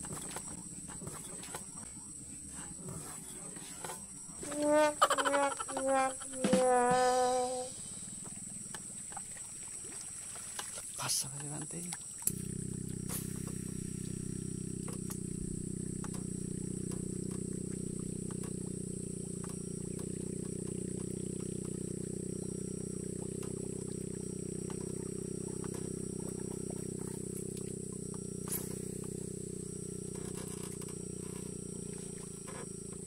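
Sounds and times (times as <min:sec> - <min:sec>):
small boat motor droning: 0:00.0 - 0:33.0.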